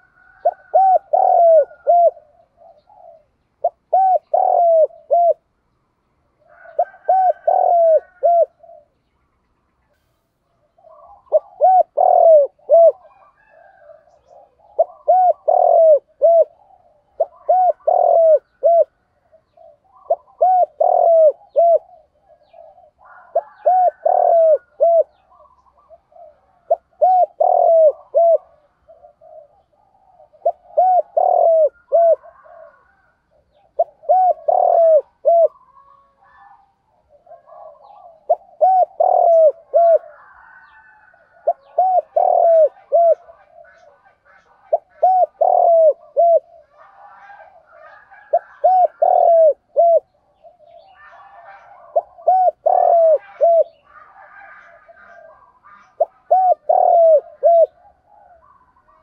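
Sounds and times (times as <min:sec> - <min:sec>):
dove cooing: 0:00.0 - 0:05.6, 0:06.3 - 0:09.0, 0:10.6 - 0:59.0.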